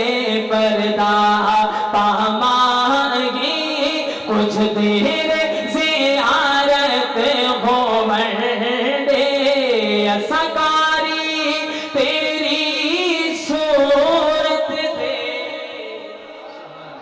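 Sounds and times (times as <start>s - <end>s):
man singing into a microphone: 0.0s - 16.6s.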